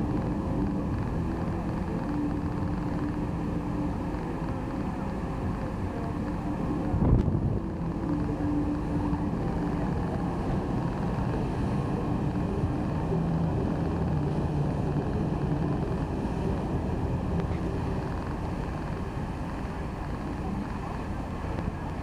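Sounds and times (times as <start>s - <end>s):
water rushing: 0.0s - 22.0s
wind on microphone: 0.0s - 22.0s.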